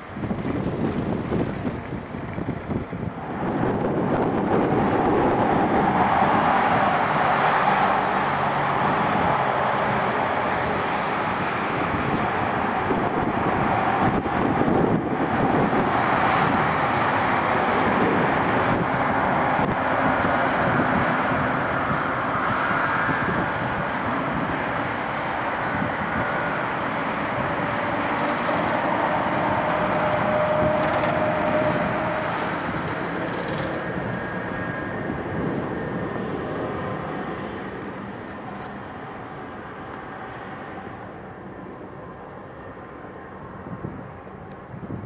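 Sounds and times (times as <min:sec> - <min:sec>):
jet engines whining: 0:00.0 - 0:45.0.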